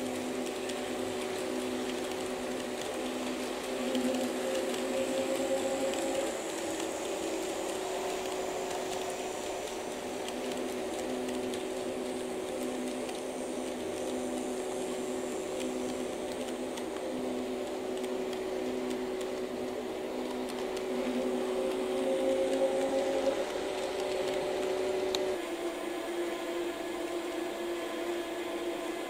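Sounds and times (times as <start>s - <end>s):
model train whirring: 0.0s - 29.0s.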